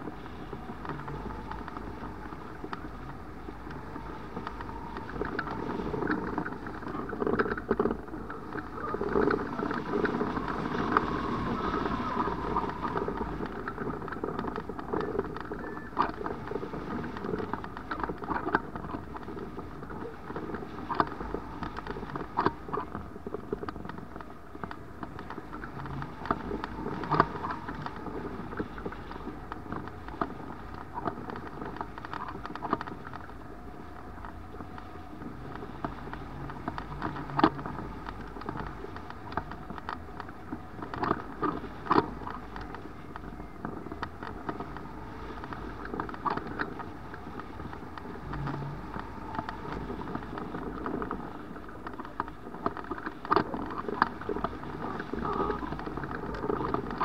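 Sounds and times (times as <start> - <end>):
wind noise: 0.0 - 57.0.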